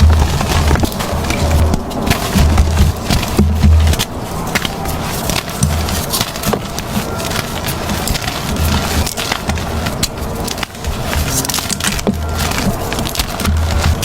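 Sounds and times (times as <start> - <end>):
chalk being crushed by hand: 0.0 - 14.0.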